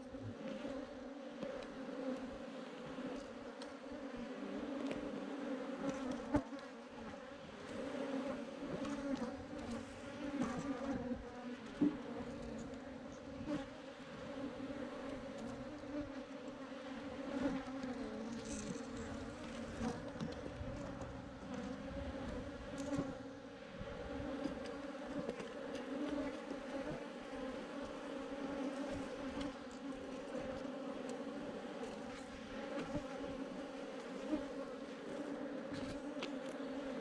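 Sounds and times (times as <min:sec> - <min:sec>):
bees buzzing: 0:04.5 - 0:37.0.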